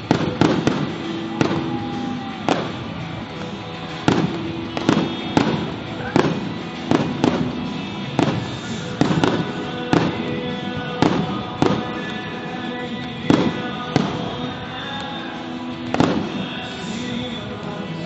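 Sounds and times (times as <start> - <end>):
fireworks bursting: 0.0 - 18.0
music over sound system: 0.0 - 18.0.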